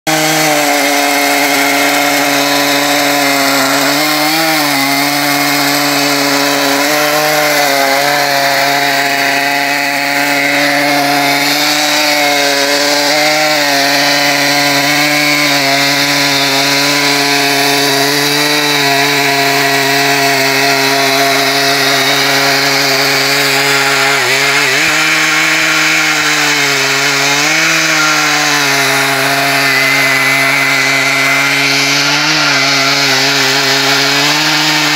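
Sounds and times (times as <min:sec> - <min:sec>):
chainsaw cutting log: 0:00.0 - 0:34.9.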